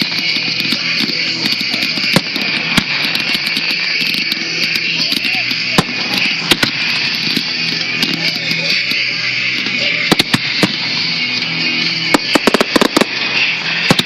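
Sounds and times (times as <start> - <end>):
firework shells bursting: 0.0 - 14.0
sparking fountains hissing: 0.0 - 14.0.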